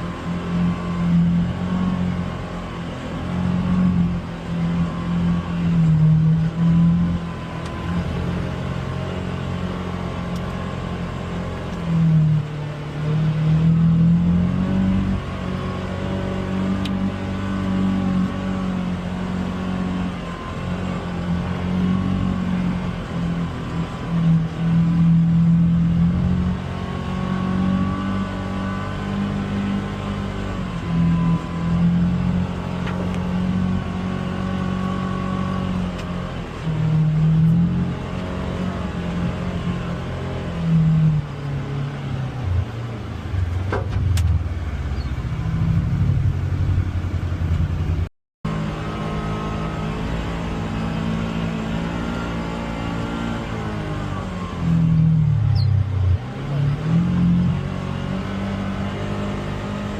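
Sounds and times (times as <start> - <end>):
utility vehicle engine revving: 0.0 - 59.9.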